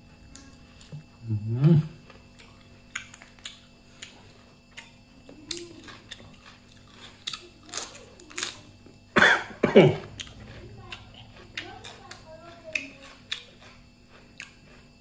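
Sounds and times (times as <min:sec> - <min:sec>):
faint low hum: 0:00.0 - 0:15.0
person chewing food: 0:00.0 - 0:15.0.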